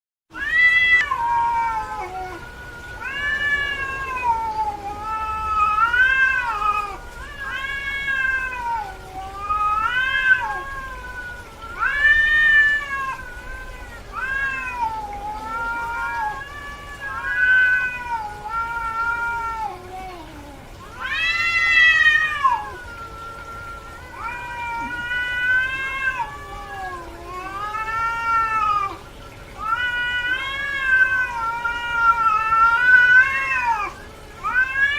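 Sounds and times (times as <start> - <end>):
cat meowing: 0.3 - 29.0, 29.6 - 34.9.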